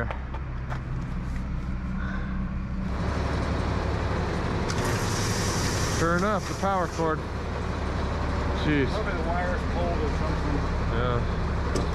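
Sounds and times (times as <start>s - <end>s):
low machine drone: 0.0s - 11.9s.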